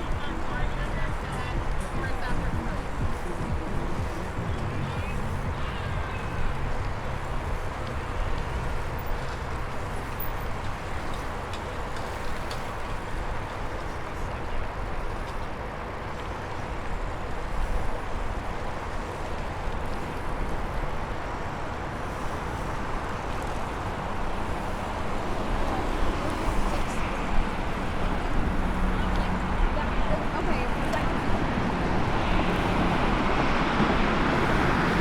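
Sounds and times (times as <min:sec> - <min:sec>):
traffic hiss: 0:00.0 - 0:35.0
wind rumble on microphone: 0:00.0 - 0:35.0.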